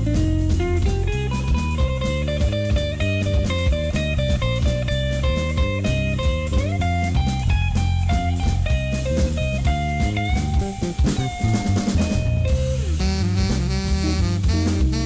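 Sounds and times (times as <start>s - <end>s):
bass: 0.0s - 15.0s
drum kit: 0.0s - 15.0s
electric guitar run: 0.0s - 15.0s.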